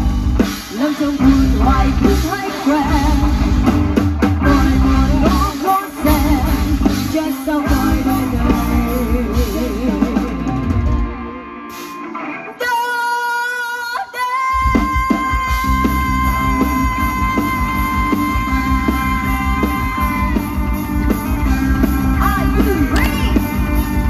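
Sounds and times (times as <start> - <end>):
drums and bass: 0.0 - 24.0
live band music: 0.0 - 24.0.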